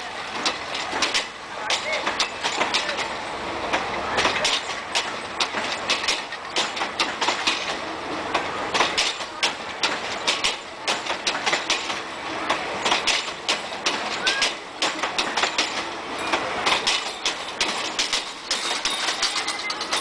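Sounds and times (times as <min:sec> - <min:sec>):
rumbling rail noise: 0:00.0 - 0:20.0
train wheels clacking: 0:00.0 - 0:20.0.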